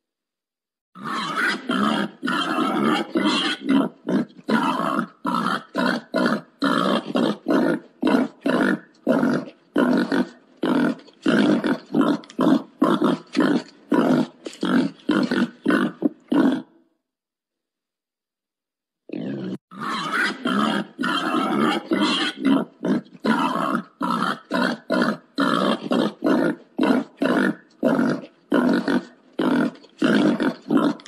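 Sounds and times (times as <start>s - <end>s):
wild boar grunting: 1.0s - 16.8s, 19.1s - 31.0s.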